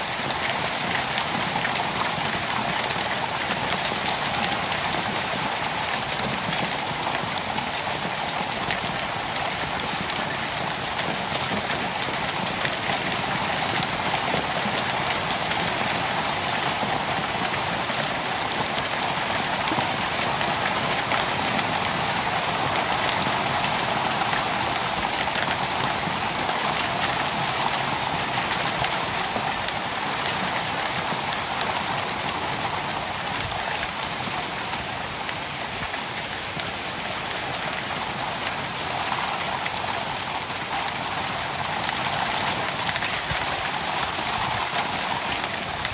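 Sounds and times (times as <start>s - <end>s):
rain falling on lawn and trees: 0.0s - 45.9s.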